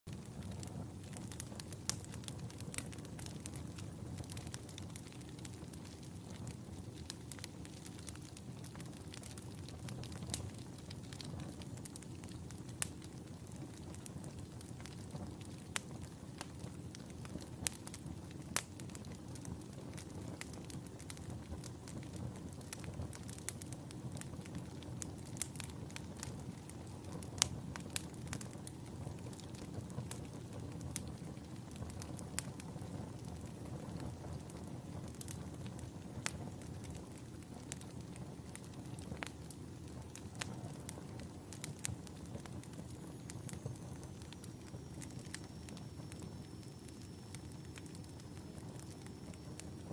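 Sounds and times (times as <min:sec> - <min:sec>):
fire crackling: 0:00.1 - 0:49.9.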